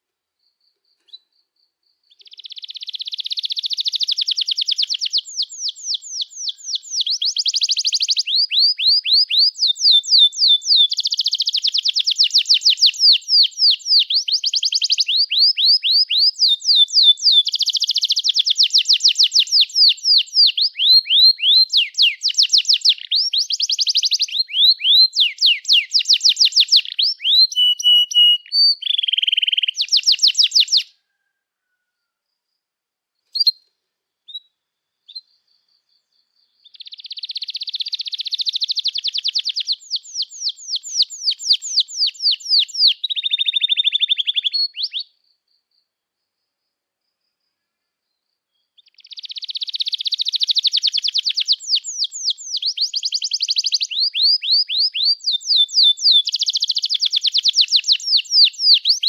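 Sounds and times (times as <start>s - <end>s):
canary singing trills: 0.4s - 31.4s, 33.3s - 45.3s, 48.6s - 59.0s.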